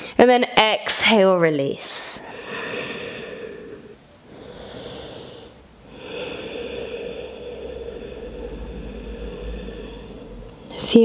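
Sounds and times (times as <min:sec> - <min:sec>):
woman breathing: 0:02.2 - 0:11.0.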